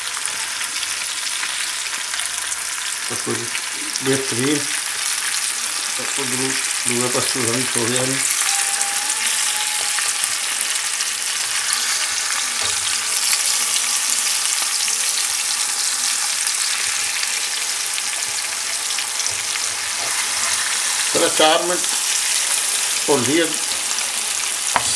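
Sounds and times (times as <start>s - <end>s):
meat sizzling in hot oil: 0.0s - 24.9s
spatula turning meat: 0.0s - 24.9s.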